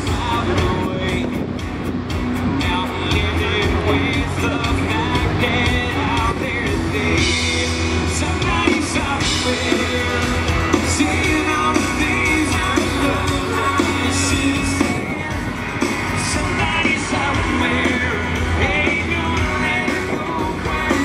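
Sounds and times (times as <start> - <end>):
man singing into a microphone: 0.0 - 1.6, 2.4 - 21.0
guitar: 0.0 - 21.0
steady beat: 0.0 - 21.0.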